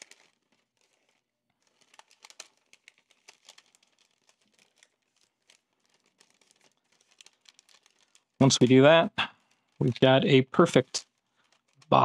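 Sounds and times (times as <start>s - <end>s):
parchment paper crinkling: 0.0s - 12.0s.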